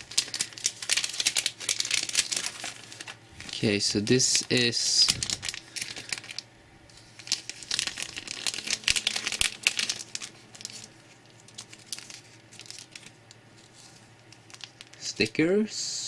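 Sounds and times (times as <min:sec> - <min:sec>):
plastic bags crinkling: 0:00.0 - 0:15.1.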